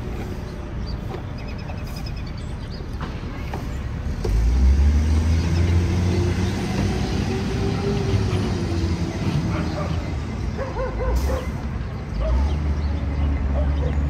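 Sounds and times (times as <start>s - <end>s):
city street traffic: 0.0s - 14.0s
vehicle engine rumbling close by: 0.0s - 14.0s.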